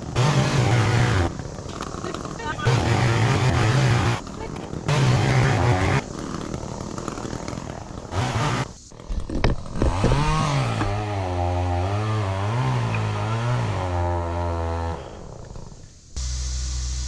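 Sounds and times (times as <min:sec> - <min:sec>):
chainsaw revving: 0:00.0 - 0:08.8, 0:09.5 - 0:16.3.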